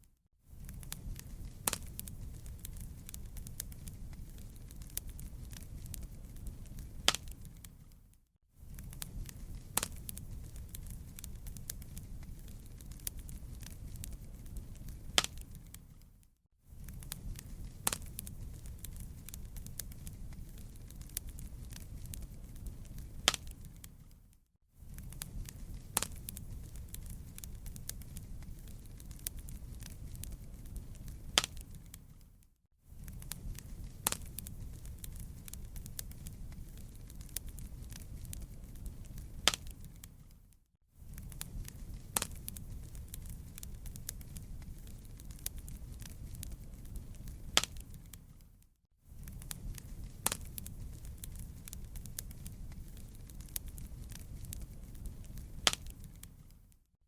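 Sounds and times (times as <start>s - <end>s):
sharp fire pops: 0.5s - 8.0s, 8.6s - 16.1s, 16.7s - 24.2s, 24.8s - 40.4s, 41.0s - 48.5s, 49.1s - 56.6s
campfire crackling: 0.5s - 48.6s, 49.2s - 56.7s.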